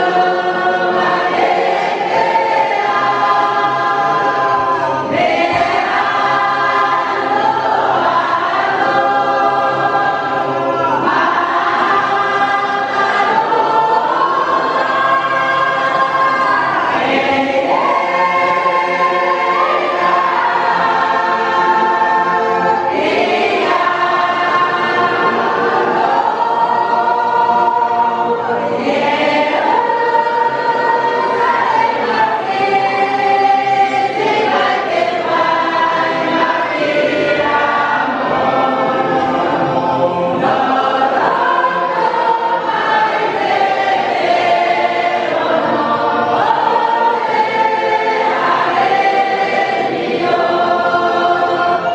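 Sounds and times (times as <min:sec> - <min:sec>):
congregation singing a hymn: 0:00.0 - 0:51.9.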